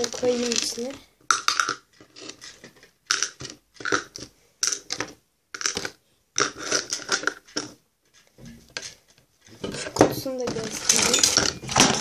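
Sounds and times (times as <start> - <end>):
plastic toys rustling and clicking: 0.0 - 12.0.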